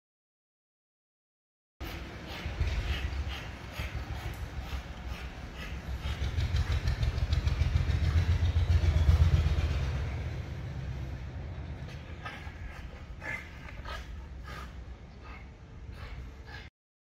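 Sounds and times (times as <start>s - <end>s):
low rumble: 2.5s - 16.7s.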